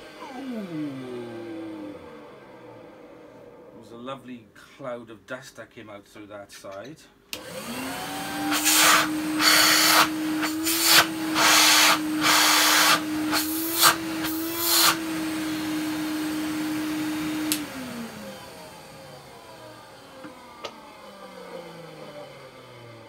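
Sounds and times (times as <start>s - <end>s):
vacuum cleaner motor humming: 0.0s - 3.8s, 7.4s - 23.0s.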